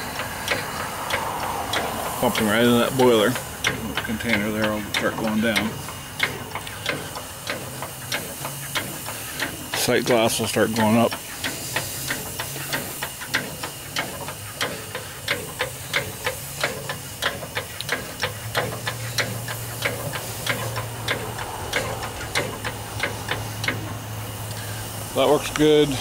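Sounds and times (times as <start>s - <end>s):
hand pump clicking: 0.0s - 26.0s.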